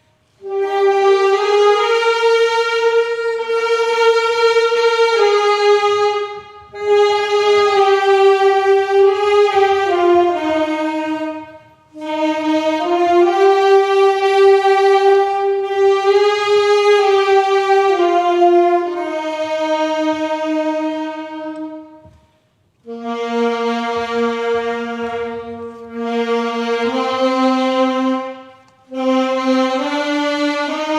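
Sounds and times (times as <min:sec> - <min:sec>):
hymn melody on wind instrument: 0:00.0 - 0:30.9.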